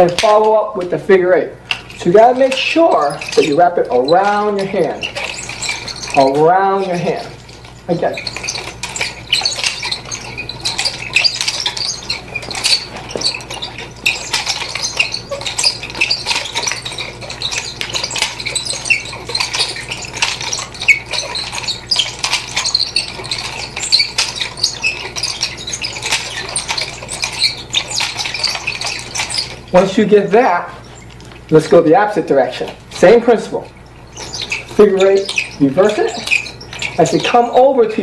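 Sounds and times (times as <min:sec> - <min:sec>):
nunchaku chain rattling: 0:00.0 - 0:38.0.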